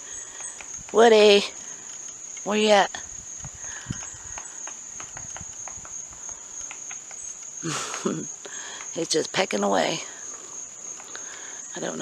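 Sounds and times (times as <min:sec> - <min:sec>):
insects droning: 0:00.0 - 0:12.0
woodpecker pecking: 0:00.0 - 0:12.0.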